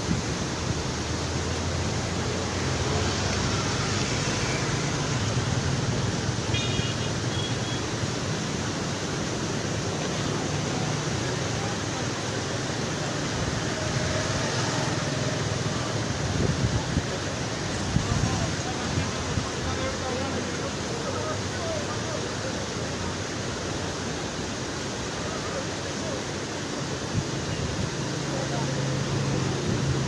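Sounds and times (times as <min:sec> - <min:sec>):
river rushing in flood: 0:00.0 - 0:30.0.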